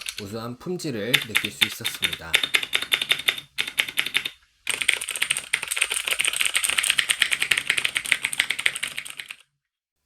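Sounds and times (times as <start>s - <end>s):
mechanical keyboard key clicks: 1.1s - 9.4s.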